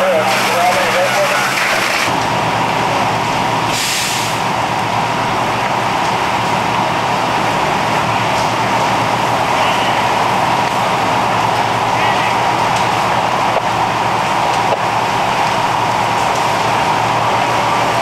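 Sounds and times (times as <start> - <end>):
fire engine running: 0.0 - 18.0.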